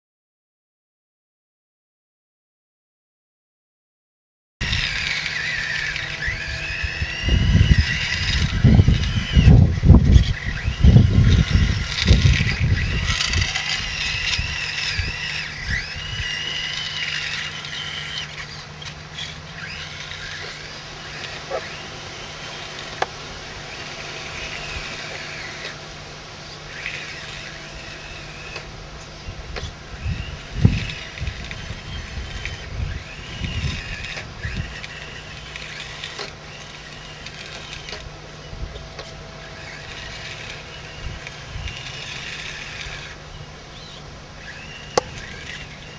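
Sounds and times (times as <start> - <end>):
electric motors and gearboxes whining: 4.6 - 45.9.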